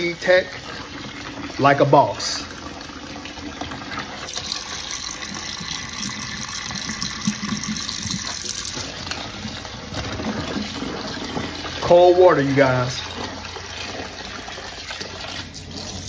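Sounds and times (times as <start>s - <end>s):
tap water splashing into tub: 2.4s - 16.0s.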